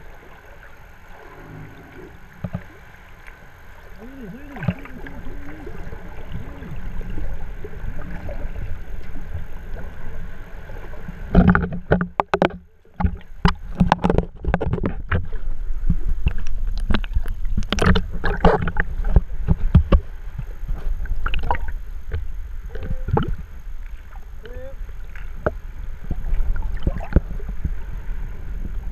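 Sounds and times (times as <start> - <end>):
splashes and bubbling: 0.0 - 28.9
underwater water rushing: 0.0 - 28.9.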